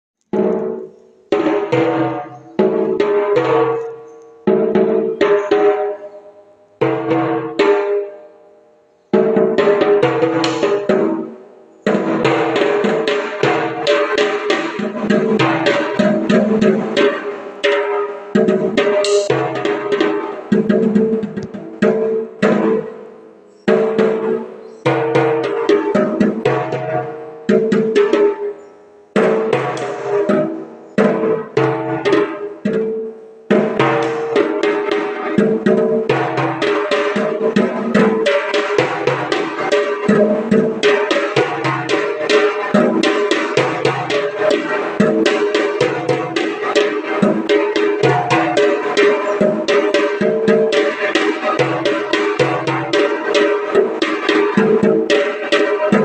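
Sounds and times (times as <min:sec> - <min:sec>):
tenor drums struck rapidly with sticks: 0:00.3 - 0:06.0, 0:06.8 - 0:08.1, 0:09.2 - 0:23.1, 0:23.7 - 0:28.6, 0:29.2 - 0:56.0.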